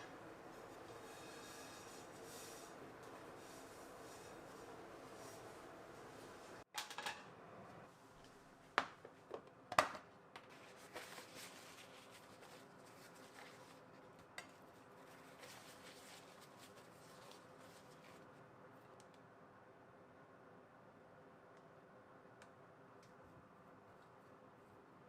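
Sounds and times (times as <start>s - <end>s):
faint room hum: 0.0s - 25.0s.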